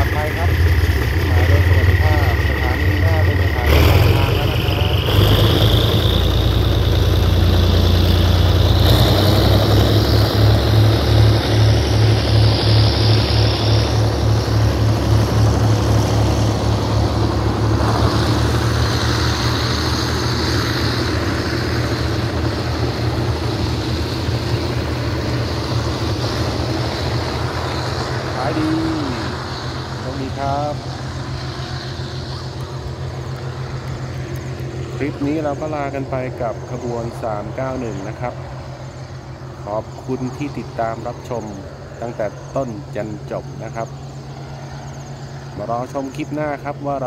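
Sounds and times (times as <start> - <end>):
diesel locomotive roaring: 0.0 - 47.0
train coaches rolling past: 0.0 - 47.0.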